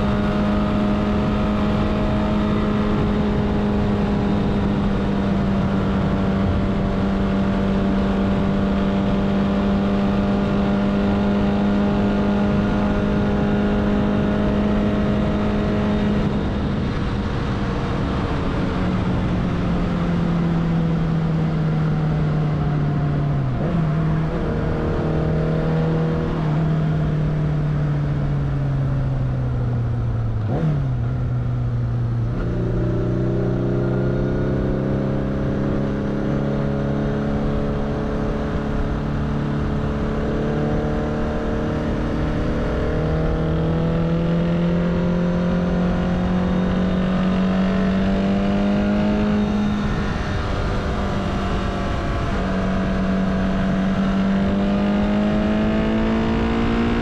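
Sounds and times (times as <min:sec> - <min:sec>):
motorcycle engine under way: 0:00.0 - 0:57.0
wind and road noise: 0:00.0 - 0:57.0.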